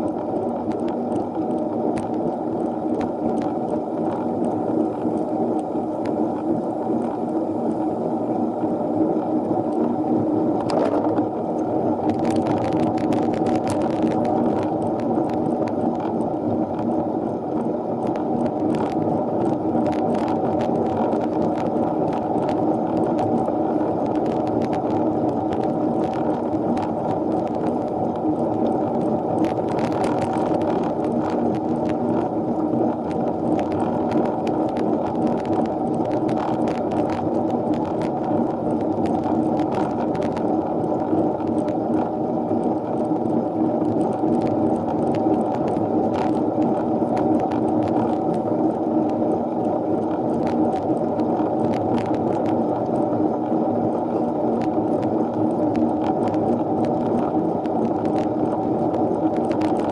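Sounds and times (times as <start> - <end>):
light clicks and ticks: 0.0 - 7.9, 10.6 - 32.3, 33.0 - 48.4, 50.0 - 53.1, 54.6 - 59.9
bike tyres on tarmac: 0.0 - 59.9
bike drivetrain: 8.6 - 59.9.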